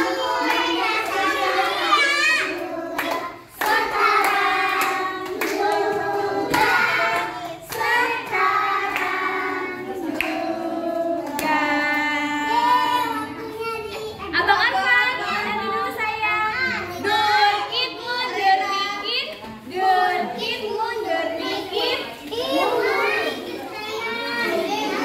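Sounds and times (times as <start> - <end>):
children singing: 0.0 - 14.2, 15.2 - 25.0.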